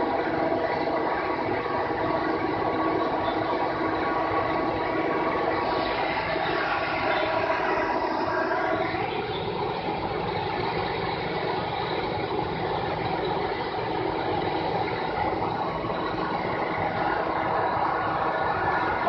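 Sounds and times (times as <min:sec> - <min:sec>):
heavy vehicle engine droning: 0:00.0 - 0:19.0.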